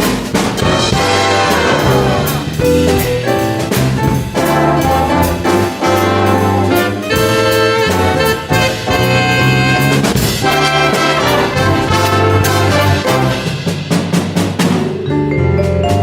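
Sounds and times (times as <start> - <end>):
bass: 0.0 - 16.0
drums: 0.0 - 16.0
jazz big band brass: 0.0 - 16.0.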